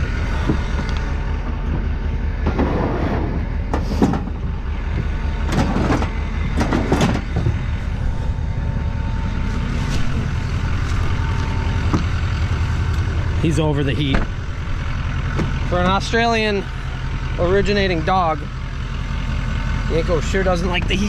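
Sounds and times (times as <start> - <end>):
clunks and rattles: 0.0 - 19.9
truck engine idling: 0.0 - 21.0.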